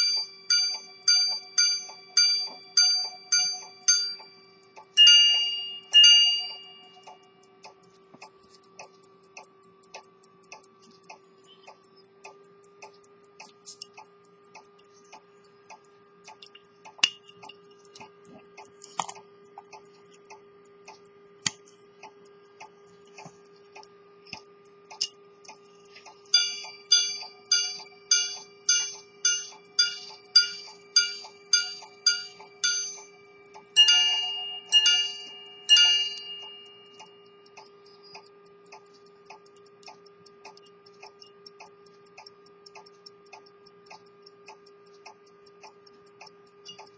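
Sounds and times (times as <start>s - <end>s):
faint steady hum: 0.0s - 46.9s
pocket watch ticking: 0.0s - 46.9s.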